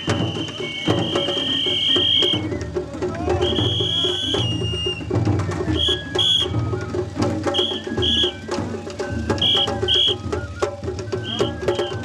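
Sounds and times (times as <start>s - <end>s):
drums beating: 0.0s - 12.0s.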